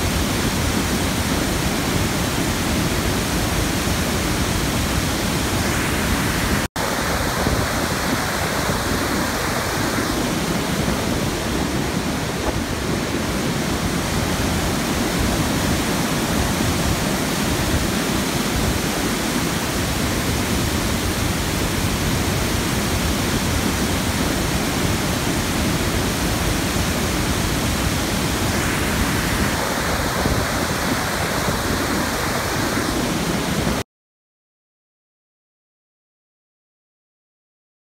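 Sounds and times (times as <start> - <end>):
floodwater roaring over spillway: 0.0 - 33.8.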